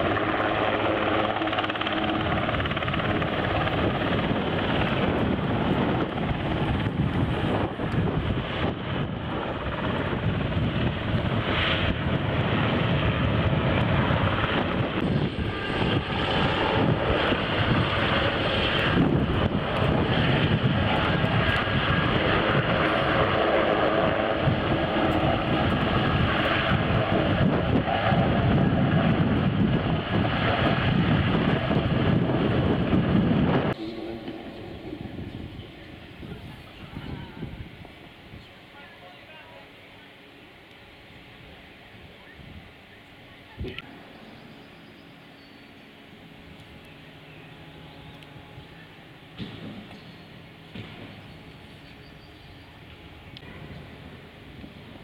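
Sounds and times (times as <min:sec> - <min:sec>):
aircraft engine running: 0:00.0 - 0:55.0.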